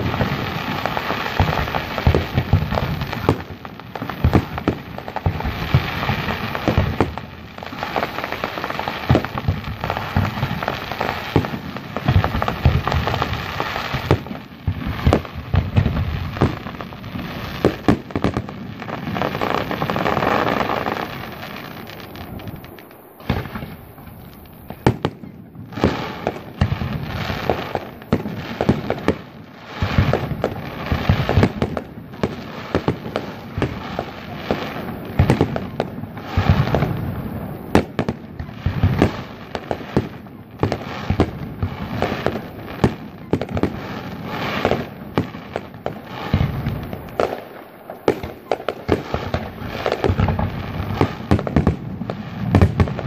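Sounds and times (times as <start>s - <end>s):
fireworks bursting with bangs: 0.0s - 53.0s
fireworks crackling: 0.0s - 53.0s.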